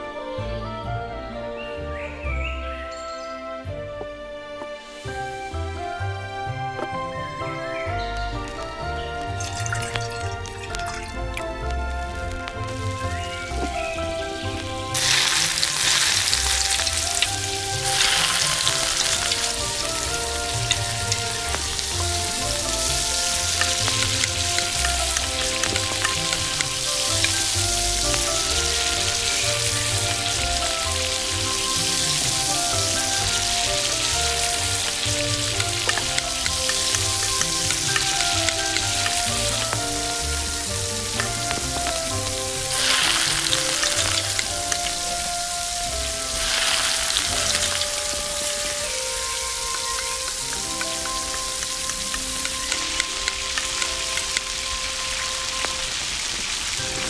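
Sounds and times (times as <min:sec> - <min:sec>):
oil sizzling and crackling: 0:04.7 - 0:57.0.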